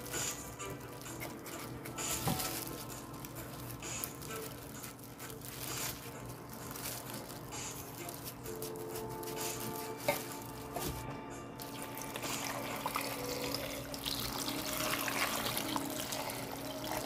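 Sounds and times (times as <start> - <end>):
plastic gloves crinkling: 0.0 - 17.0
soft background music: 0.0 - 17.0.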